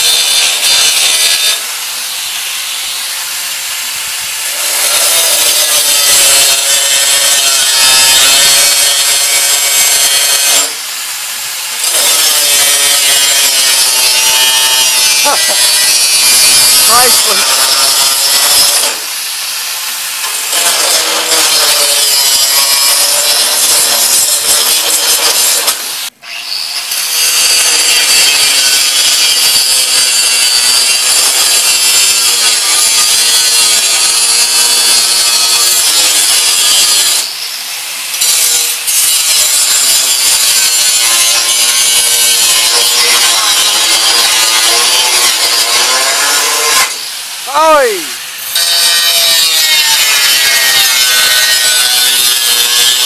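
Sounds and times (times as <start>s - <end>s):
angle grinder cutting steel: 0.0s - 53.0s.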